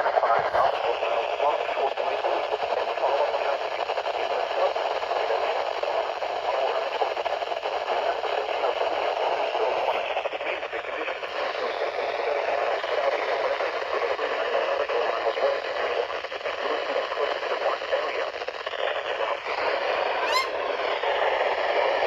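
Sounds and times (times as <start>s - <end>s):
radio static hissing: 0.0s - 22.0s.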